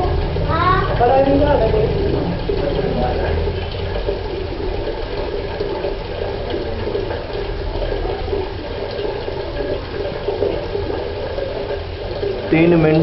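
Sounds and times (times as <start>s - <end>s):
water pouring into a bucket: 0.0s - 13.0s.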